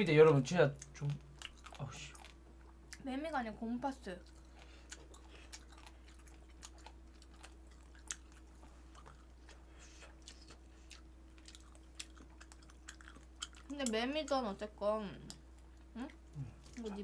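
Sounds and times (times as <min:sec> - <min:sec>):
low steady hum: 0:00.0 - 0:17.0
faint chewing: 0:00.8 - 0:03.1, 0:04.0 - 0:14.4, 0:15.2 - 0:17.0.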